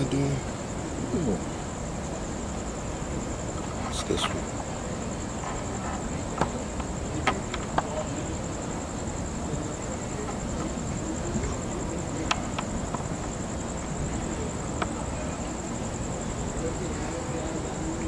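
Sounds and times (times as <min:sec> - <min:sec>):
crickets trilling: 0:00.0 - 0:18.0
low background noise: 0:00.0 - 0:18.0.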